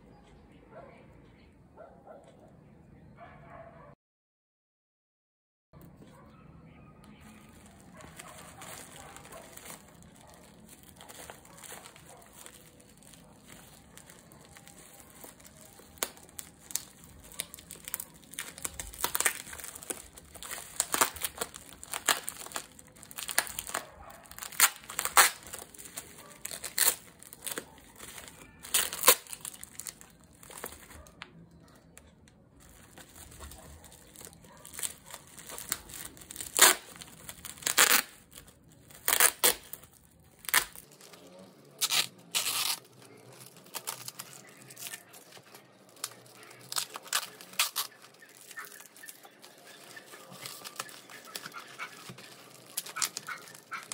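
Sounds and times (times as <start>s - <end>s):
bubble wrap crinkling: 7.0s - 53.9s
packing tape peeling: 7.1s - 31.1s, 32.6s - 53.9s.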